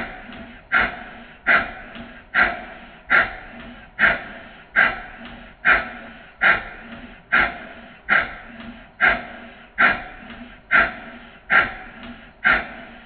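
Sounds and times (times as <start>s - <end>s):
steam engine exhaust chuffs: 0.0s - 13.0s.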